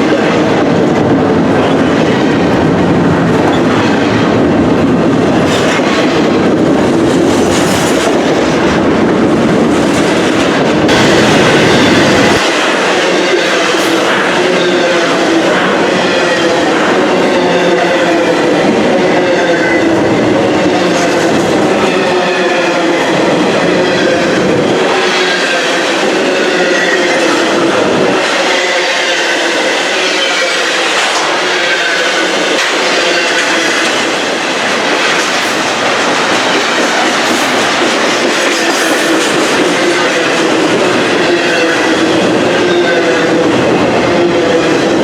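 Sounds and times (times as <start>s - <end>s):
deep train rumble: 0.0s - 45.0s
train wheels clattering on rails: 0.0s - 45.0s.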